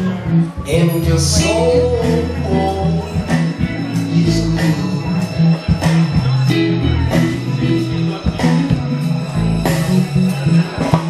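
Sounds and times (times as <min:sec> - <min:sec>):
music with bass and beat: 0:00.0 - 0:11.0.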